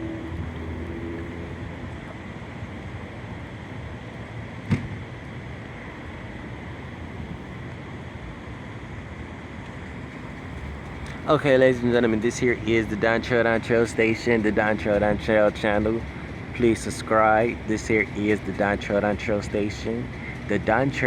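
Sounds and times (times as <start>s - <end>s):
background rumble and hiss: 0.0s - 21.0s.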